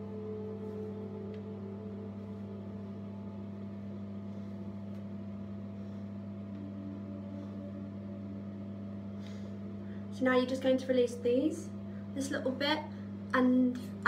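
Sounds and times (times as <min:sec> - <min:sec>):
low electric hum: 0:00.0 - 0:14.0.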